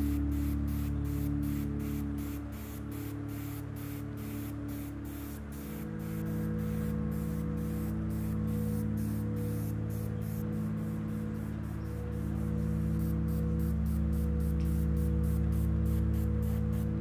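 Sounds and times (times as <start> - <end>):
pulsing hiss: 0.0 - 17.0
sustained low music chords: 0.0 - 17.0.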